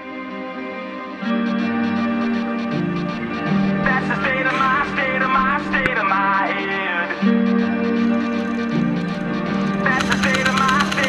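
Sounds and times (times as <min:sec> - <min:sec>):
rock guitar chords: 0:00.0 - 0:11.0.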